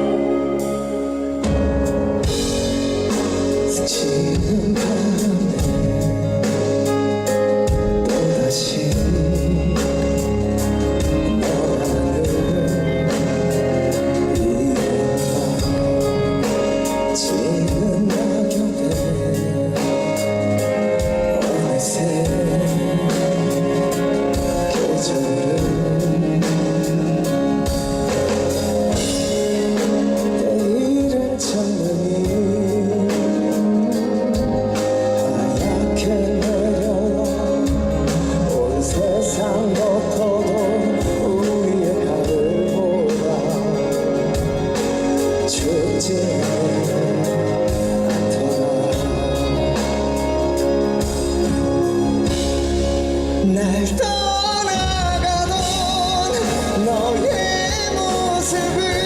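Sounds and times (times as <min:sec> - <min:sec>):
live pop ballad with singing: 0:00.0 - 0:59.0.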